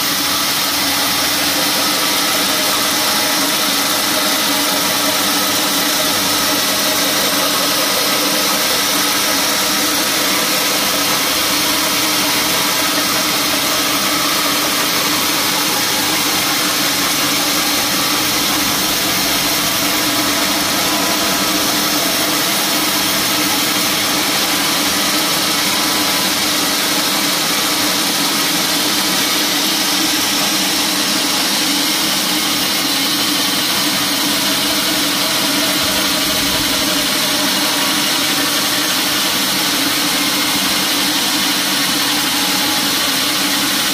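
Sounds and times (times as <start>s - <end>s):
band saw cutting wood: 0.0s - 43.9s.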